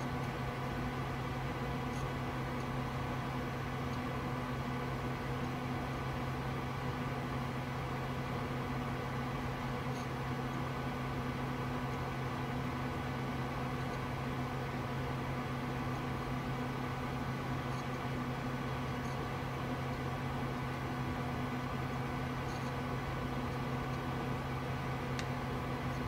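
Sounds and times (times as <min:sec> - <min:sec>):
computer fans whirring: 0:00.0 - 0:26.0.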